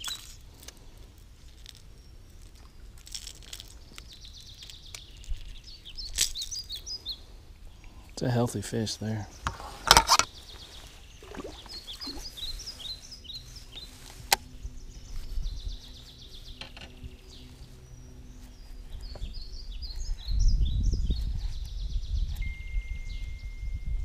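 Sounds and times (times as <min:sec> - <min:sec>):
birds chirping: 0:01.6 - 0:23.6.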